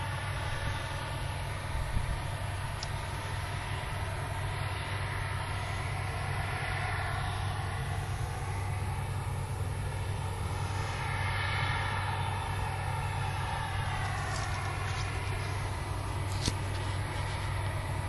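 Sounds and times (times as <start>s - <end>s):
faint whine: 0.0s - 18.0s
harvest machinery engine drone: 0.0s - 18.0s.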